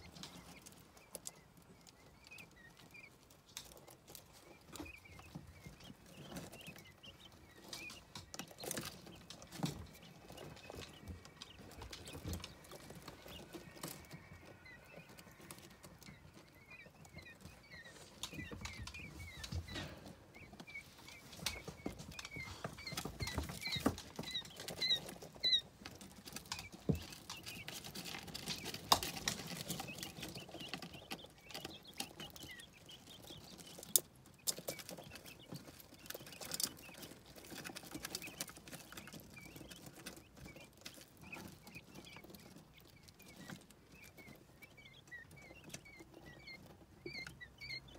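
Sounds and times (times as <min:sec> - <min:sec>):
chicks peeping: 0:00.0 - 0:47.9
chicks scratching in wood shavings: 0:00.0 - 0:47.9.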